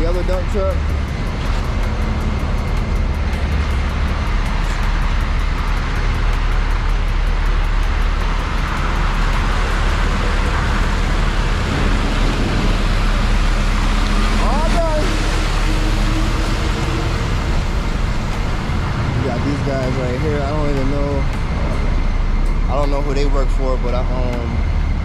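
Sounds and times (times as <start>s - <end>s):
dump truck engine rumbling: 0.0s - 25.0s.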